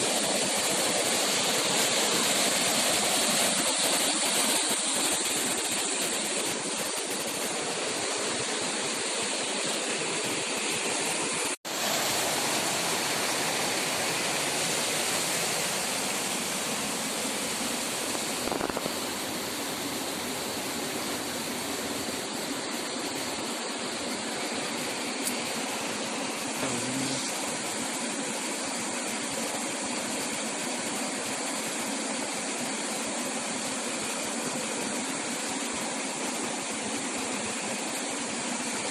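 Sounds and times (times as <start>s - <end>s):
steady rushing noise: 0.0s - 31.8s.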